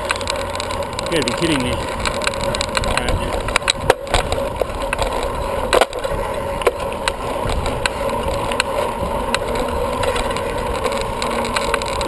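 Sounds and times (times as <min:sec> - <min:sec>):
bicycle clicks and rattles: 0:00.0 - 0:12.0
bicycle rolling on pavement: 0:00.0 - 0:12.0.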